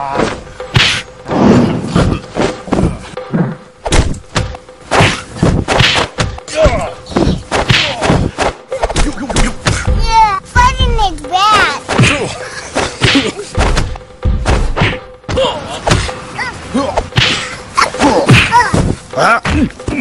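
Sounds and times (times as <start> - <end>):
thumps and whacks: 0.2 - 3.0, 3.8 - 10.0, 11.8 - 16.2, 17.0 - 20.0.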